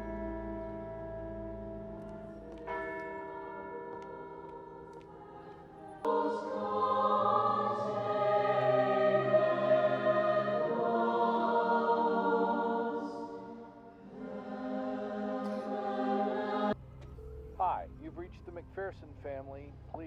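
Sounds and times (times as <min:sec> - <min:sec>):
choir singing held chords: 0:00.0 - 0:16.8.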